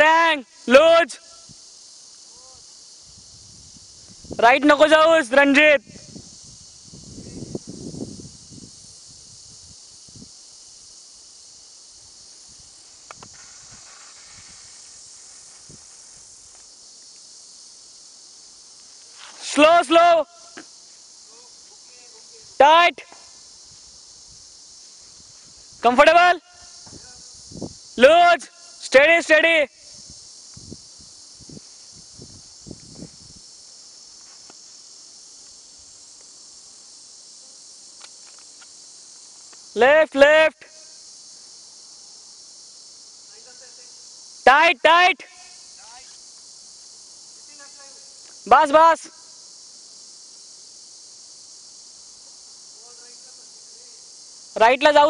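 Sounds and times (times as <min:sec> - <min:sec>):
high-pitched outdoor hiss: 0:00.0 - 0:55.0
insects droning: 0:00.0 - 0:55.0.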